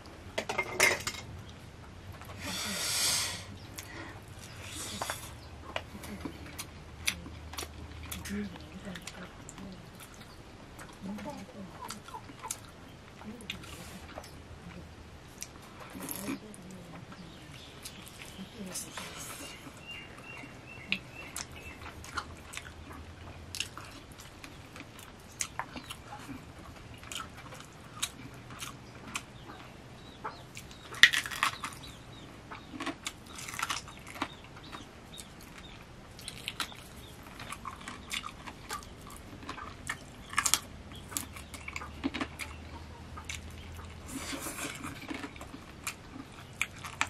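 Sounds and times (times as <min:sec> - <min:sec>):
man chewing and smacking: 0:03.6 - 0:11.0, 0:11.9 - 0:16.3, 0:17.5 - 0:18.5, 0:19.3 - 0:47.0.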